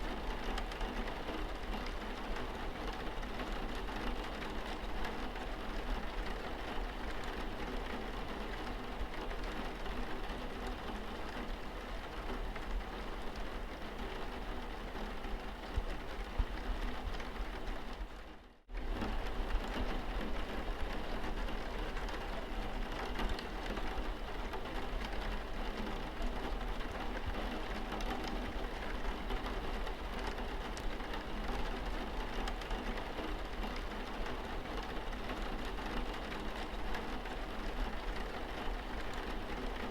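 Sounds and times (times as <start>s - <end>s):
rain on a car windscreen: 0.0s - 39.9s.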